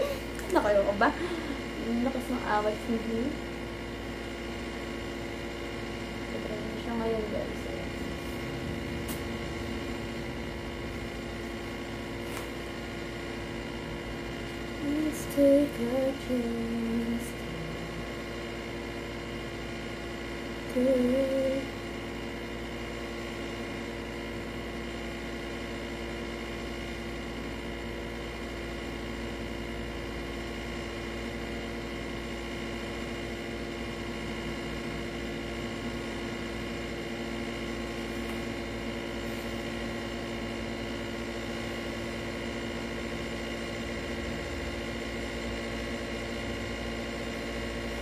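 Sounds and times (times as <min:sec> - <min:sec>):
appliance motor hum: 0:00.0 - 0:48.0.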